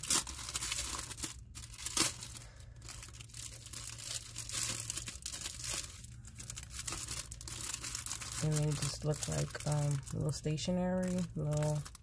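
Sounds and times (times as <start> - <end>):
cellophane crinkling: 0.0 - 12.0.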